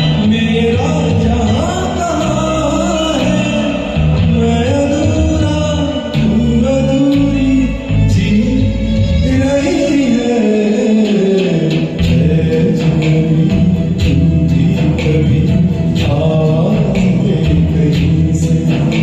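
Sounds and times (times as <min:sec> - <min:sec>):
karaoke backing music: 0:00.0 - 0:19.0
wordless sung melody: 0:00.0 - 0:19.0.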